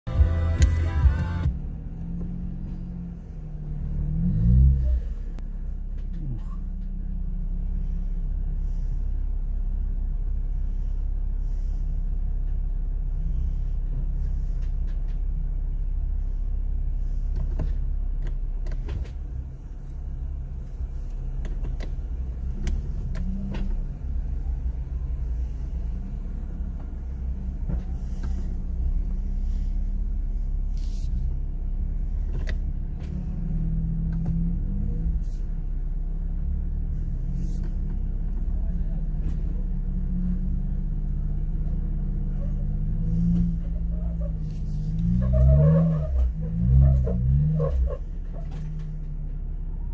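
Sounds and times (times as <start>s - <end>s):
car engine running at low revs: 0.0s - 49.9s.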